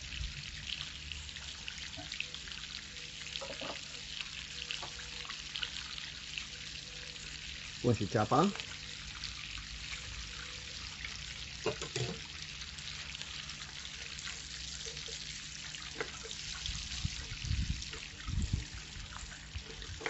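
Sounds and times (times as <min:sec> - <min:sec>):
bacon and onion sizzling in pan: 0:00.0 - 0:20.0.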